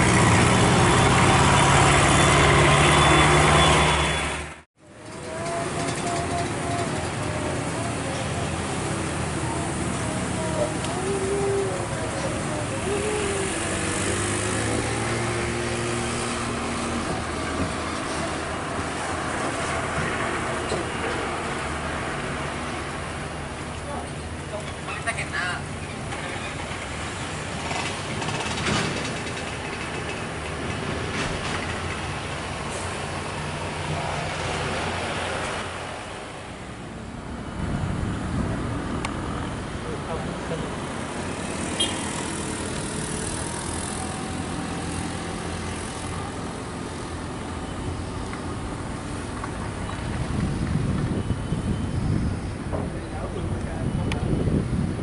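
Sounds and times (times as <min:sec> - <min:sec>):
diesel truck engines droning: 0:00.0 - 0:55.0.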